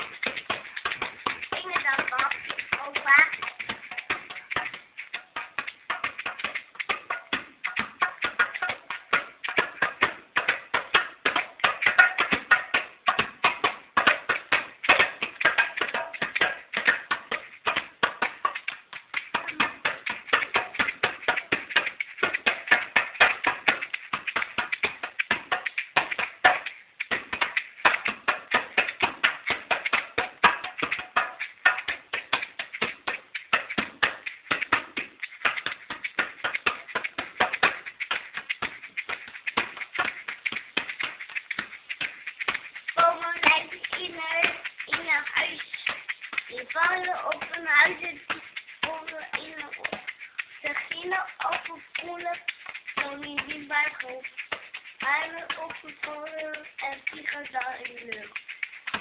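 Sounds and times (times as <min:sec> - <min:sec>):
hand drumming on djembe: 0:00.0 - 0:59.0.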